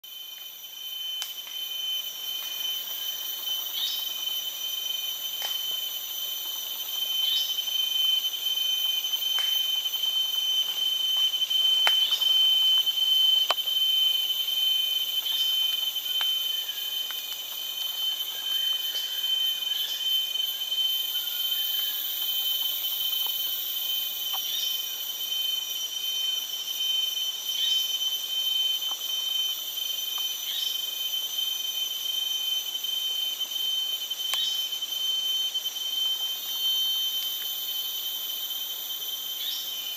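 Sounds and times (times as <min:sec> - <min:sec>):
insects whining: 0:00.0 - 0:39.9.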